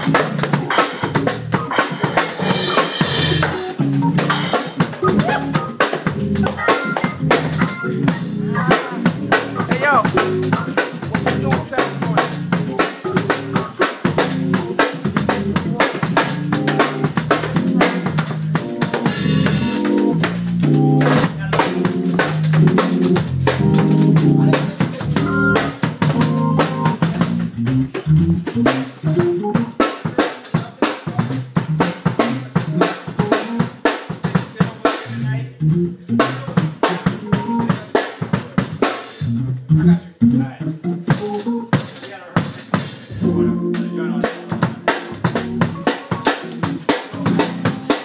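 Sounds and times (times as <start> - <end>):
drum kit groove: 0.0 - 39.4, 40.4 - 48.0
organ chords: 0.0 - 42.0, 42.8 - 48.0.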